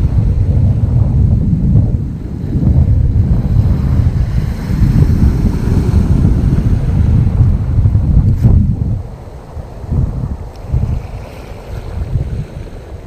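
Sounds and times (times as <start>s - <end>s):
choppy sea waves: 0.0s - 13.0s
wind buffeting microphone: 0.0s - 13.0s.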